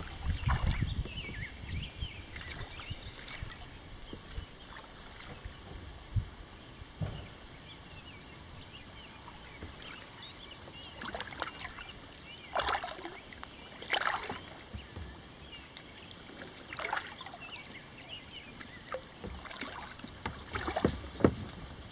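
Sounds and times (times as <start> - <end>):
kayak paddle splashing in water: 0.0 - 5.7, 8.7 - 21.9.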